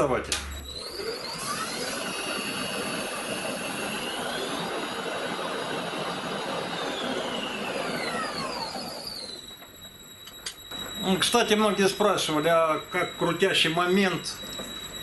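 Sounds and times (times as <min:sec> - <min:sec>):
lathe motor whine: 0:00.0 - 0:15.0.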